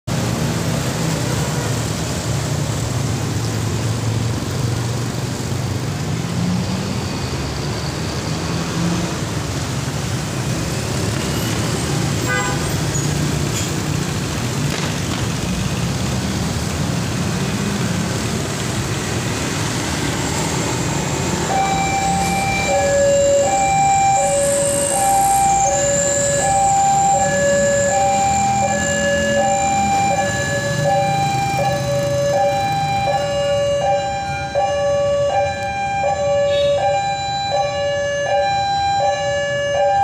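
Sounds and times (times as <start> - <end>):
road traffic: 0.0 - 40.0.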